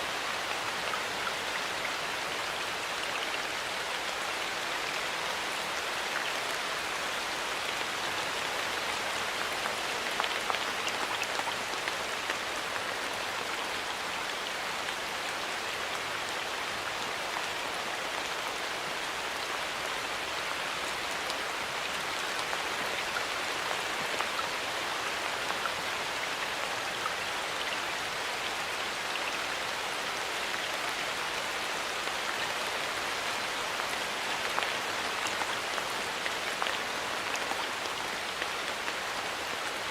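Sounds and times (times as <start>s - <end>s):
rain on leaves and ground: 0.0s - 39.9s.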